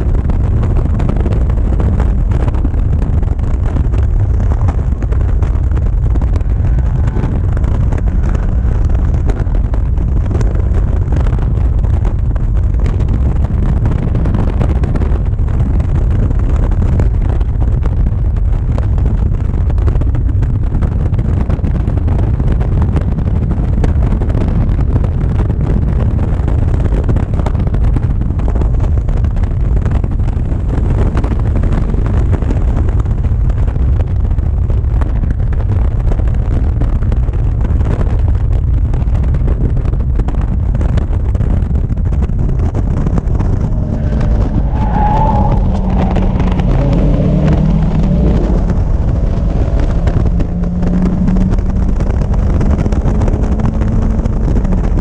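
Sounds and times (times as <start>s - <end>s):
race car engine rumble: 0.0s - 55.0s
wind buffeting microphone: 0.0s - 55.0s.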